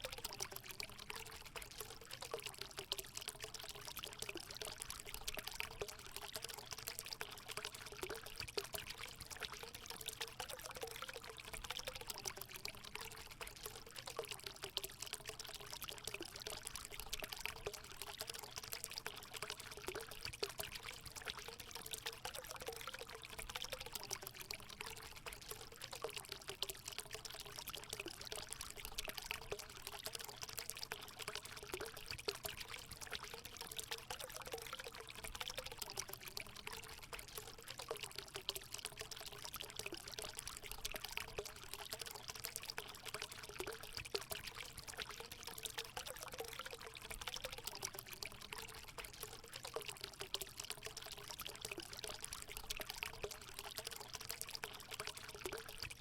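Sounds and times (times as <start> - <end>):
water pouring into pool: 0.0 - 56.0.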